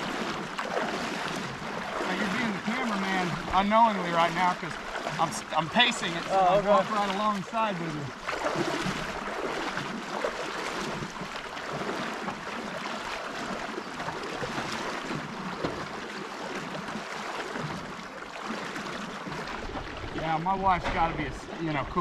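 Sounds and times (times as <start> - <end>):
creek water rushing: 0.0 - 22.0
splashes from wading: 0.0 - 22.0.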